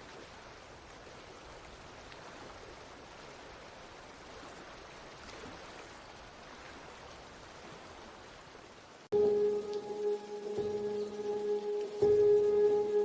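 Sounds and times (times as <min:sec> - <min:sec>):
faint water hiss: 0:00.0 - 0:13.0.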